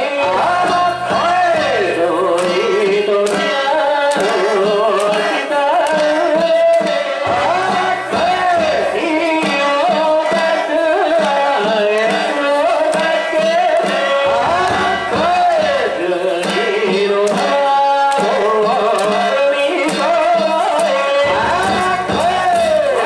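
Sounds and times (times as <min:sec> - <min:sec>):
busy percussion rhythm: 0:00.0 - 0:23.0.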